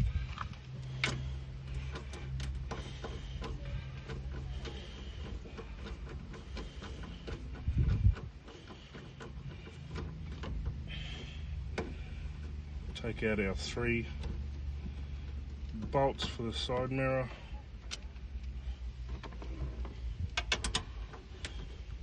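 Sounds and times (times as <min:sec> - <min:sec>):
plastic parts clicking and rattling: 0:00.0 - 0:13.1, 0:13.8 - 0:22.0
steady low hum: 0:00.0 - 0:22.0.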